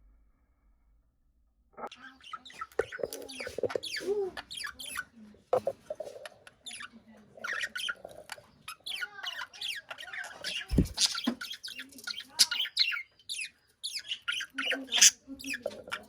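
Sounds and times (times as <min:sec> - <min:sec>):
budgies chirping and squawking: 0:01.8 - 0:16.0.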